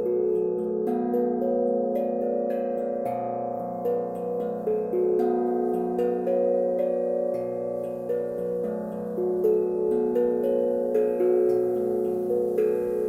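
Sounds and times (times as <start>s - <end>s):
steel tongue drum melody: 0.0s - 13.0s.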